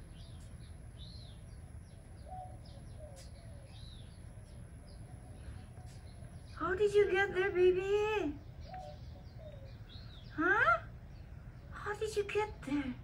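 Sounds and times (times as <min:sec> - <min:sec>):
faint bird chirps: 0:00.0 - 0:12.6
low background rumble: 0:00.0 - 0:13.0.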